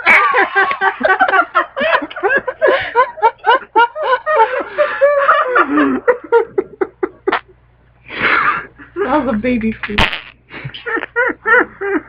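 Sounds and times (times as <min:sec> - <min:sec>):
people giggling: 0:00.0 - 0:09.3, 0:10.5 - 0:12.0.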